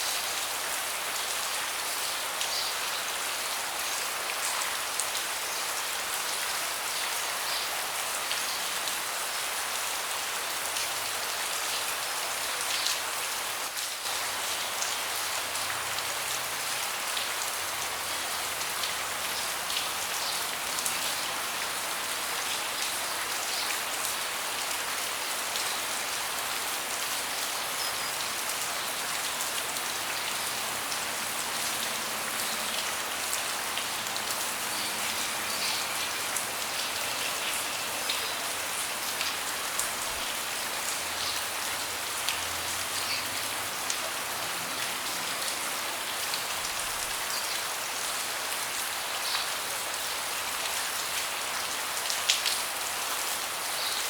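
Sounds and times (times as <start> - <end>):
rain falling on a deck: 0.0 - 54.0.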